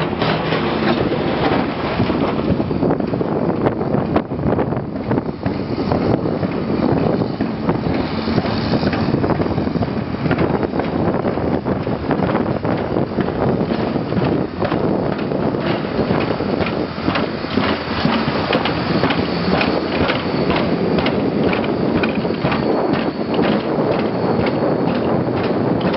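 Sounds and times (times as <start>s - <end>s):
heavy thumps of roller on concrete: 0.0s - 25.9s
tractor engine running: 0.0s - 25.9s.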